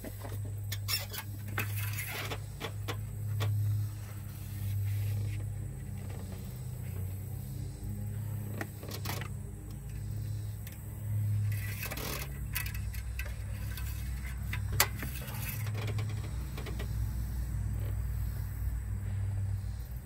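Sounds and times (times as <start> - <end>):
hands clicking and tapping engine parts: 0.0 - 18.1
steady low hum: 0.0 - 20.0.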